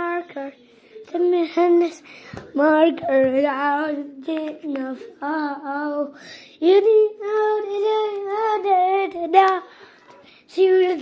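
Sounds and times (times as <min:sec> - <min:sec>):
childlike voice singing wordless tune: 0:00.0 - 0:09.8, 0:10.4 - 0:11.0.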